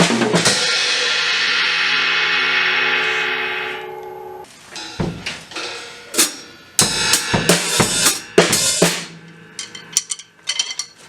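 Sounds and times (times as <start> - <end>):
drum kit fill: 0.0 - 4.0, 4.7 - 10.4
crash cymbals ringing: 0.4 - 10.5.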